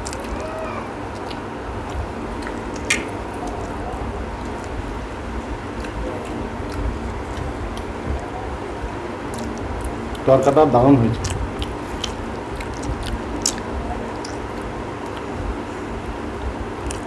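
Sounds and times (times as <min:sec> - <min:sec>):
chewing: 0:00.0 - 0:10.3, 0:11.1 - 0:17.0
fingers squishing food: 0:00.0 - 0:17.0.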